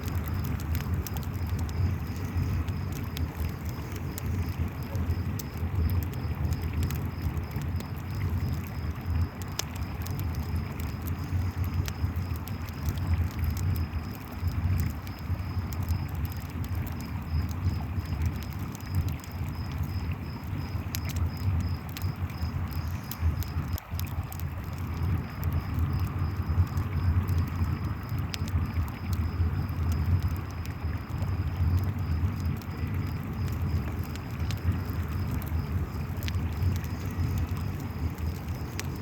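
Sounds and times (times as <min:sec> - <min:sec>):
campfire crackling and popping: 0:00.0 - 0:39.0
crickets chirping: 0:00.0 - 0:39.0.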